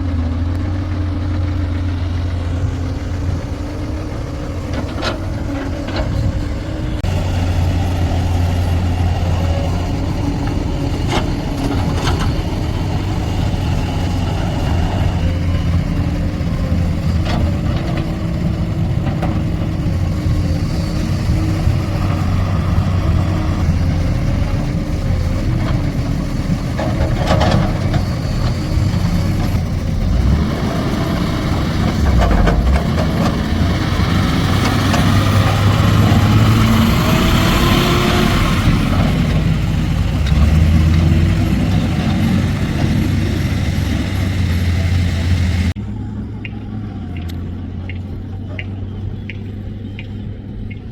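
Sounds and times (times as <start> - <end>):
backhoe diesel engine running: 0.0 - 50.9.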